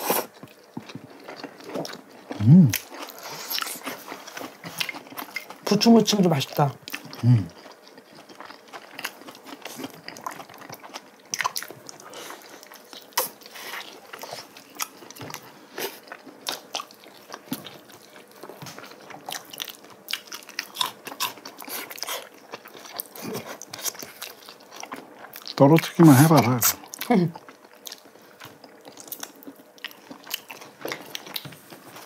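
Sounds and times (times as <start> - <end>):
chewing and biting: 0.0 - 5.7, 6.4 - 25.6, 26.6 - 32.0.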